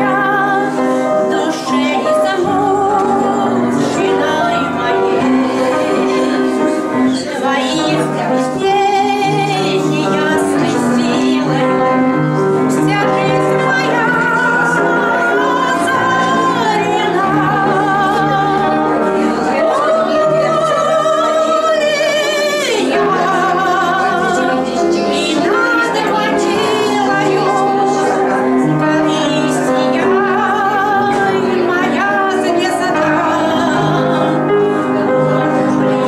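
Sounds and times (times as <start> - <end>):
instrumental accompaniment: 0.0 - 36.0
operatic singing voice: 0.0 - 36.0.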